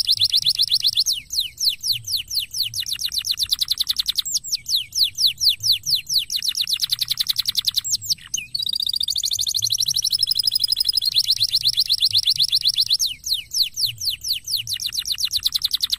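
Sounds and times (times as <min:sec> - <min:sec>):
canary singing: 0:00.0 - 0:15.9.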